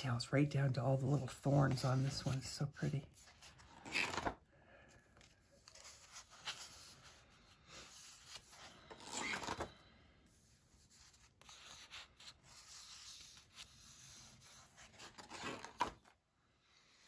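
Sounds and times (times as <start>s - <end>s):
paper rustling and sliding: 1.1s - 4.4s, 5.2s - 16.1s.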